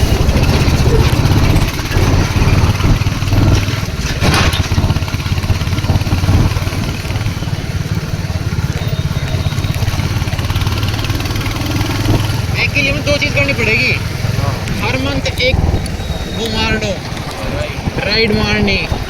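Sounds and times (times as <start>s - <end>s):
motorcycle engine humming: 0.0s - 19.0s
wind and road noise: 0.0s - 19.0s.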